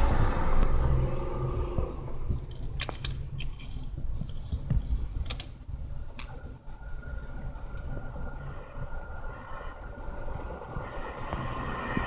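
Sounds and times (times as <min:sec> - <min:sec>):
passing train rumble: 0:00.0 - 0:04.2, 0:05.7 - 0:12.0.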